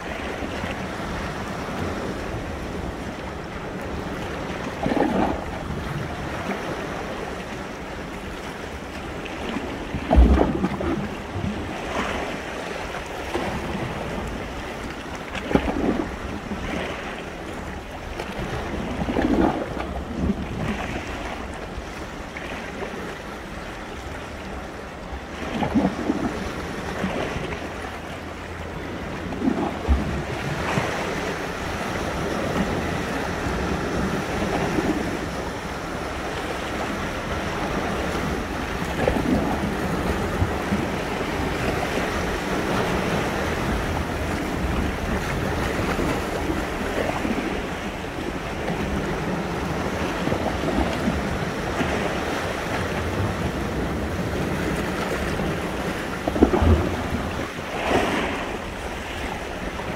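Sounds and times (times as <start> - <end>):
sea waves breaking on shore: 0.0 - 59.9
wind buffeting microphone: 0.0 - 59.9.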